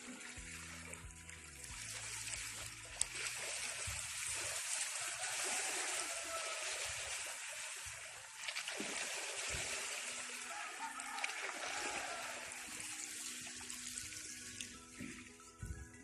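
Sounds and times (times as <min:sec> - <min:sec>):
running water splashing: 0:00.0 - 0:15.7.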